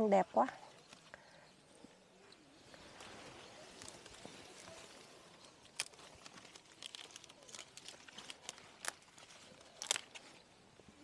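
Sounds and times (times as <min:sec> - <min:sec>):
crackling rustles: 0:00.7 - 0:11.0.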